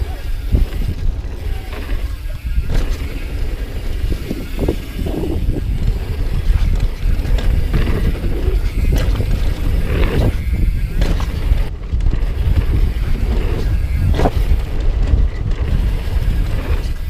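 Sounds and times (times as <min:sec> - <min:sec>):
bike knocking and rattling: 0:00.0 - 0:17.0
bike tyres rumbling on dirt: 0:00.0 - 0:17.0
wind buffeting microphone: 0:00.0 - 0:17.0.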